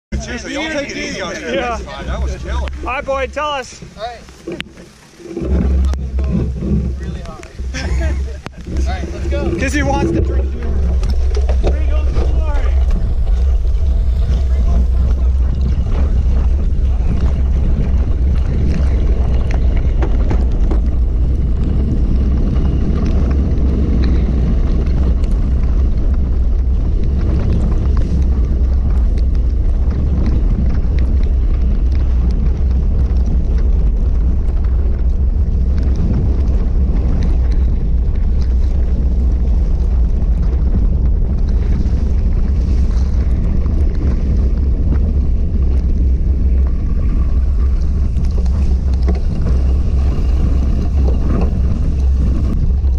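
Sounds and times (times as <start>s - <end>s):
wind buffeting microphone: 0.1s - 52.9s
bicycle tyres hissing on wet pavement: 0.2s - 52.9s.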